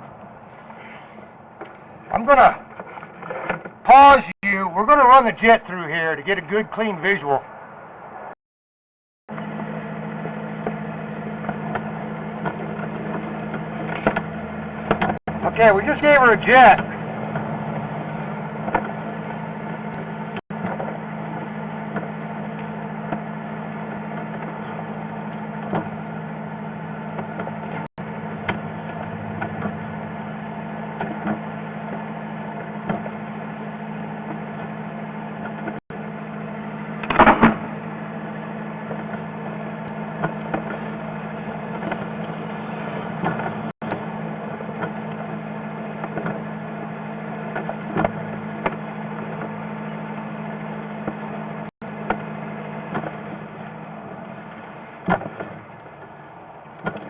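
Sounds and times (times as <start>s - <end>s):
engine idling: 0.0s - 7.4s, 9.3s - 57.0s.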